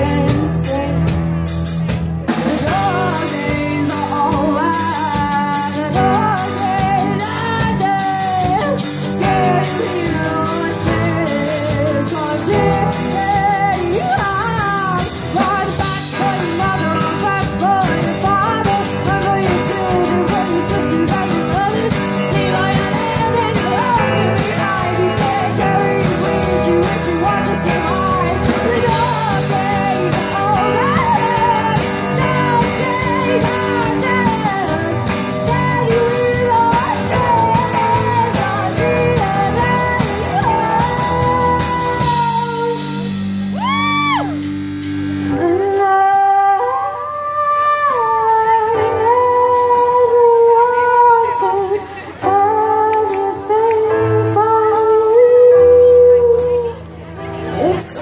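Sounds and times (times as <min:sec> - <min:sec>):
girl singing lead: 0:00.0 - 0:44.6, 0:45.2 - 0:58.0
drums: 0:00.0 - 0:58.0
live rock band playing: 0:00.0 - 0:58.0.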